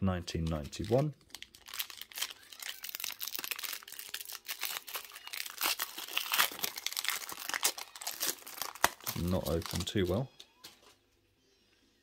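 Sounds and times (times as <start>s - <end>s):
foil wrapper tearing and crinkling: 0.4s - 10.2s.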